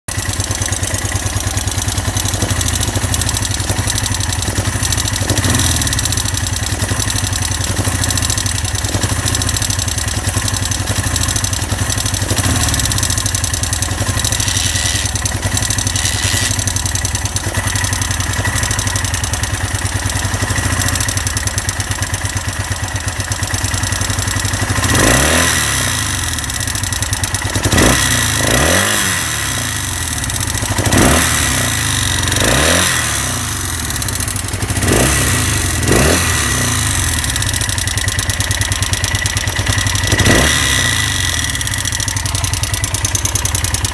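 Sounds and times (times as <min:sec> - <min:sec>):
engine rattling: 0:00.0 - 0:43.9
motorcycle engine idling: 0:00.1 - 0:43.9.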